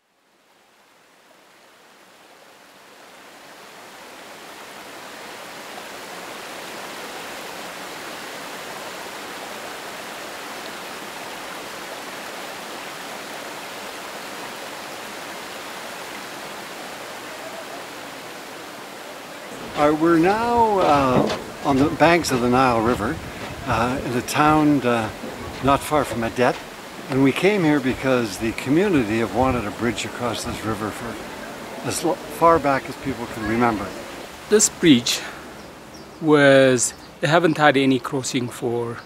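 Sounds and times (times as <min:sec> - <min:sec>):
river water flowing: 0:00.0 - 0:39.0.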